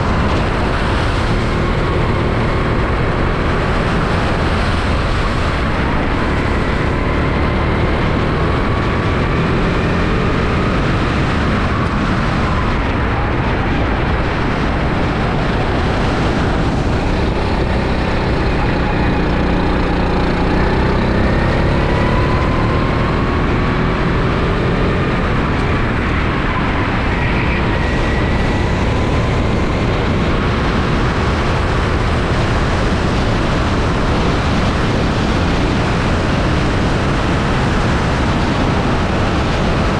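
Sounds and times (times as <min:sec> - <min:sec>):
kart engine revving: 0:00.0 - 0:13.4, 0:14.0 - 0:39.9
rushing noise on microphone: 0:00.0 - 0:39.9.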